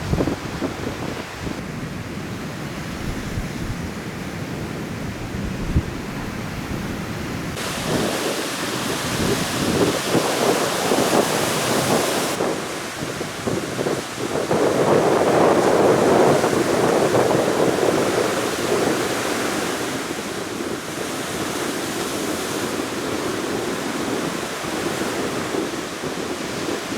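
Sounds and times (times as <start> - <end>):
heavy surf breaking: 0.0 - 26.9
wind buffeting microphone: 0.0 - 26.9.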